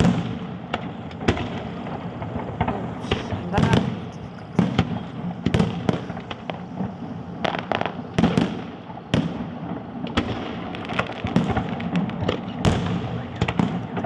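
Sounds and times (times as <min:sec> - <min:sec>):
firework bangs and crackles: 0:00.0 - 0:14.0
rumble of firework bursts: 0:00.0 - 0:14.0.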